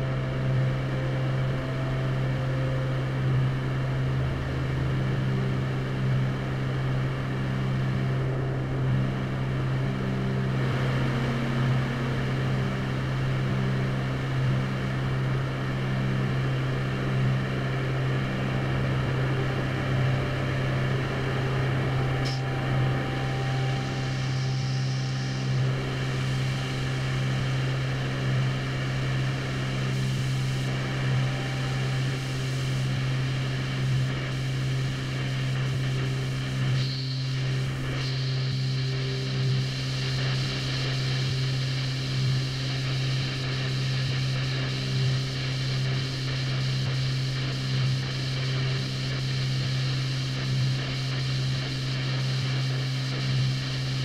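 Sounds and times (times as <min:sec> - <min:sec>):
ambient drone music on guitars: 0:00.0 - 0:54.0.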